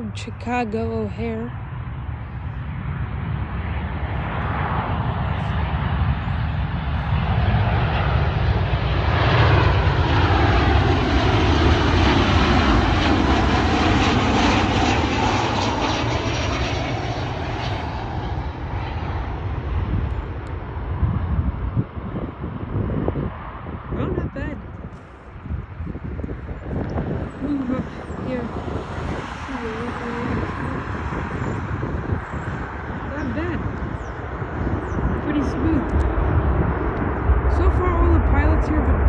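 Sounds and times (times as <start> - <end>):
jet airliner passing: 0.0 - 39.0.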